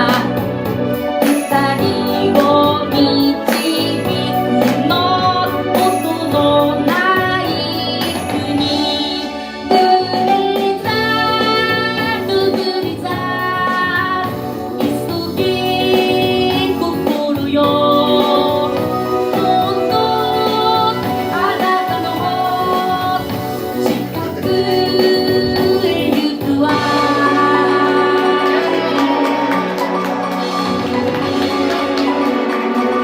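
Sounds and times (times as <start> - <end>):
instrumental accompaniment: 0.0 - 33.0
person singing: 0.0 - 33.0.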